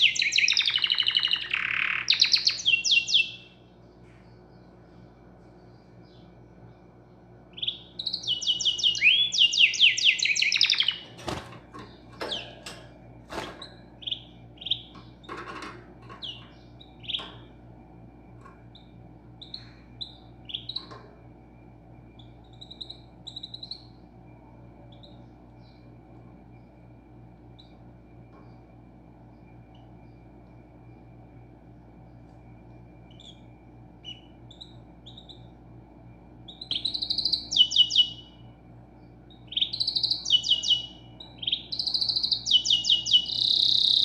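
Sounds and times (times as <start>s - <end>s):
small bird chirping: 0.0s - 17.7s, 18.4s - 21.2s, 22.0s - 26.8s, 27.4s - 28.7s, 33.0s - 35.6s, 36.4s - 44.0s
faint steady hum: 0.0s - 44.0s.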